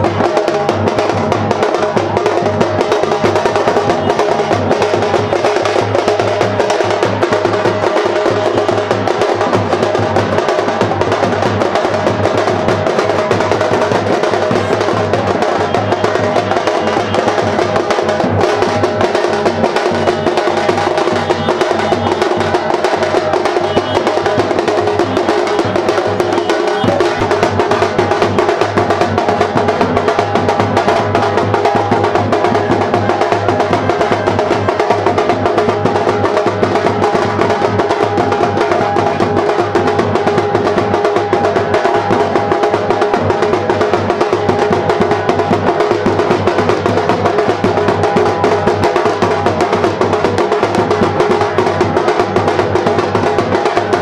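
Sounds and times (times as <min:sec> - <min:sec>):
many drums beaten with sticks: 0:00.0 - 0:54.0.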